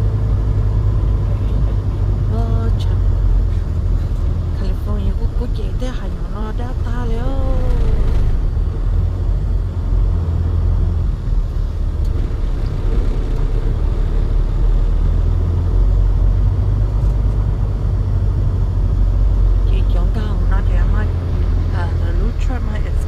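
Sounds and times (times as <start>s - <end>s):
road noise: 0.0s - 23.0s
truck engine rumble: 0.0s - 23.0s.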